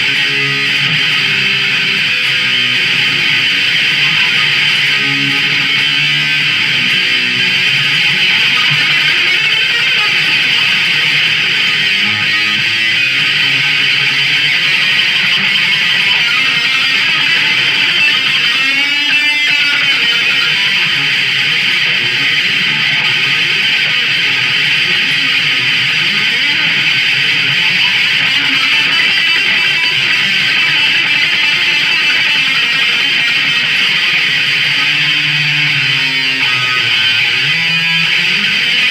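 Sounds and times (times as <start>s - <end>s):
electric guitar through amplifier: 0.0s - 38.9s.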